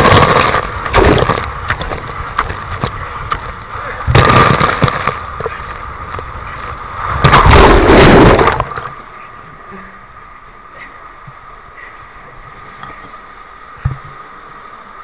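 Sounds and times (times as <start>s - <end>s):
water rushing in waterslide tube: 0.0s - 15.0s.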